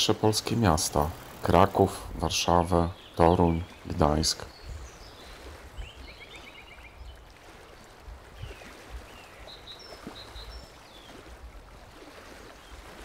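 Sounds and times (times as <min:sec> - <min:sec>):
small birds chirping: 0:00.0 - 0:11.3.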